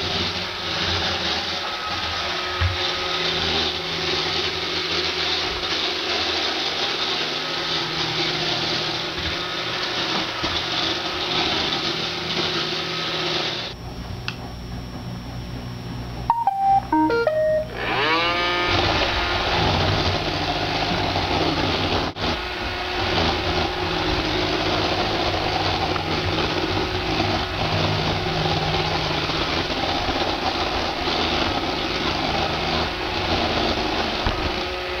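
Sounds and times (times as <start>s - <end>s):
robot vacuum running: 0.0s - 13.8s, 17.3s - 35.0s.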